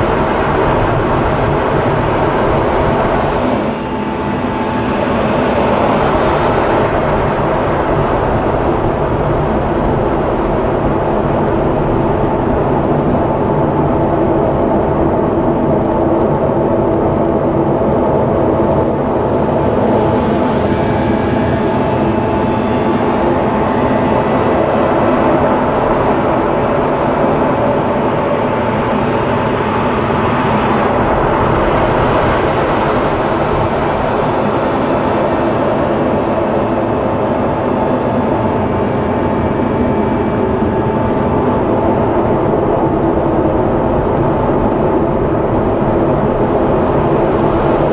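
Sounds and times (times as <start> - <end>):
constant hum: 0.0 - 47.9
jet engine in cockpit: 0.0 - 47.9.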